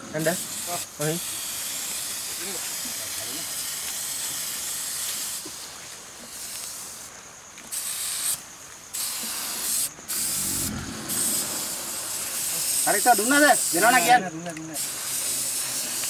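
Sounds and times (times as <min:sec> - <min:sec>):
high hiss: 0:00.0 - 0:16.0.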